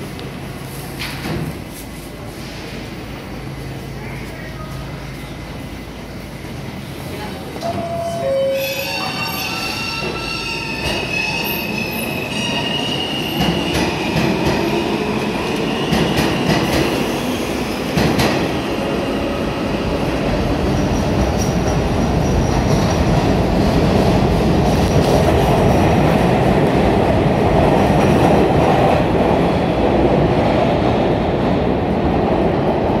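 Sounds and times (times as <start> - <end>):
wheels rumbling and clattering on rail: 0.0 - 33.0.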